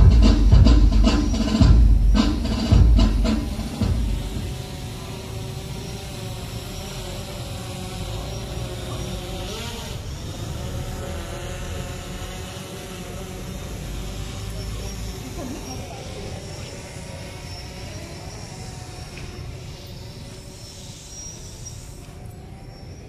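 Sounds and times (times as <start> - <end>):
crowd murmur: 0.0 - 20.6
distant traffic: 0.0 - 23.0.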